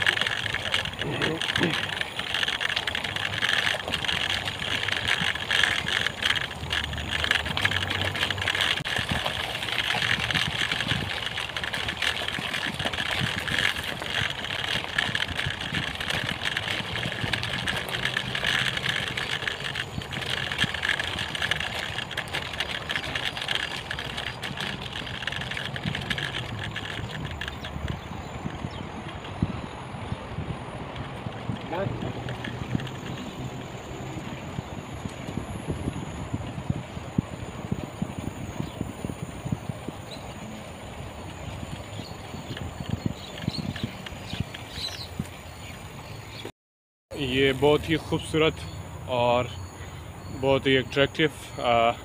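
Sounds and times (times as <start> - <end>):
bicycle tyres on gravel: 0.0 - 46.5, 47.1 - 52.0
bike rattles and knocks: 0.0 - 46.5.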